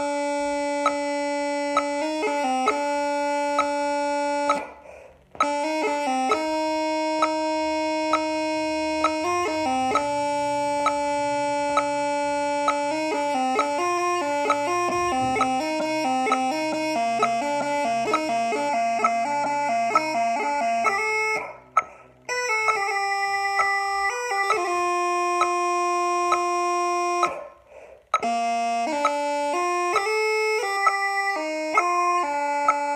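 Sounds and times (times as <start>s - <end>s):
bagpipes playing a tune: 0.0s - 27.4s, 28.2s - 32.9s.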